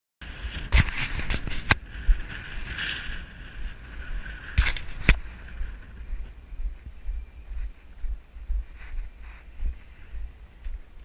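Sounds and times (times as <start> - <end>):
wind rumbling on microphone: 0.2 - 11.0.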